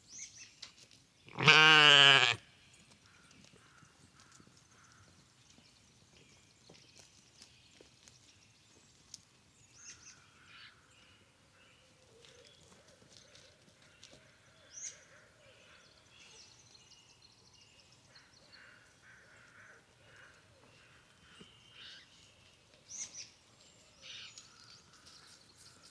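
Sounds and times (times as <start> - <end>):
faint birdsong: 0.0 - 25.9.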